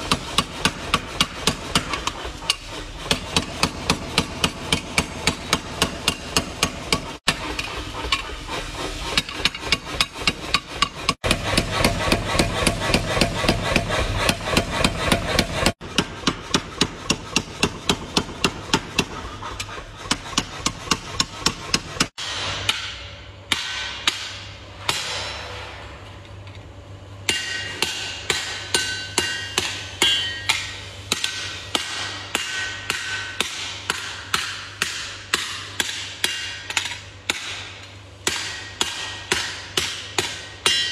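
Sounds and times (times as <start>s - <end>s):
power hammer pounding steel: 0.0s - 25.6s, 27.2s - 40.9s.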